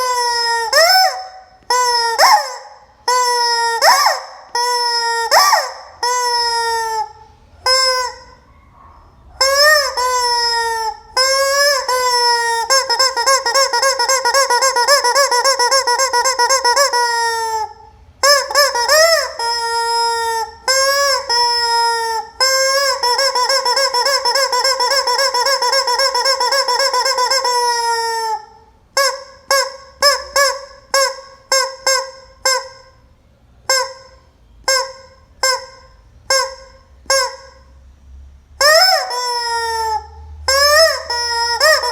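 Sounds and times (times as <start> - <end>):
squeaky chicken toy squawking: 0.0 - 37.8, 38.6 - 41.9.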